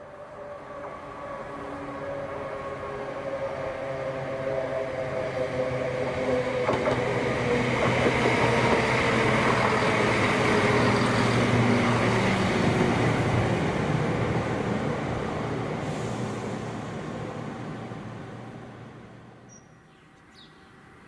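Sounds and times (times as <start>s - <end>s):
train engine drone: 0.0s - 19.5s
wheels rumbling on rails: 0.6s - 19.4s.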